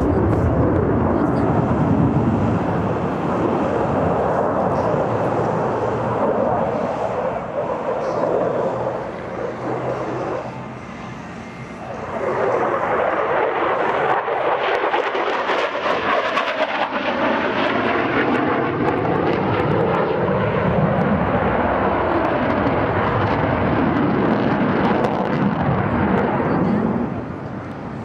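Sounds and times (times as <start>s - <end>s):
fighter jet roaring past: 0.0s - 28.0s.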